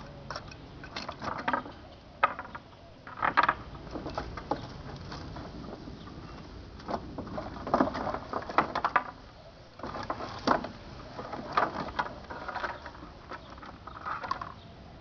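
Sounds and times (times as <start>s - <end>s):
hard objects clicking and knocking: 0.2s - 5.8s, 6.8s - 9.2s, 9.8s - 14.6s.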